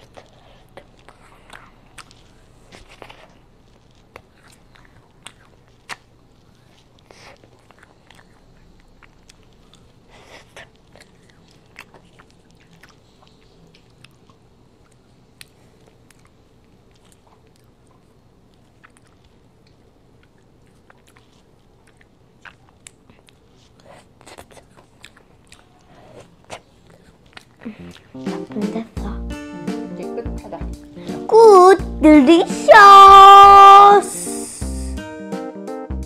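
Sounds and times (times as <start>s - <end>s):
child licking and chewing ice cream: 0.0s - 28.6s, 31.0s - 34.9s.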